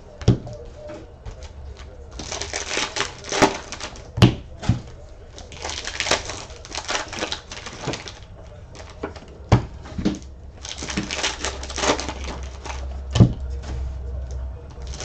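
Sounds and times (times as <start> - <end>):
sharp thumps: 0.0 - 5.3, 6.2 - 15.0
wrappers and cards rustling: 0.0 - 15.0.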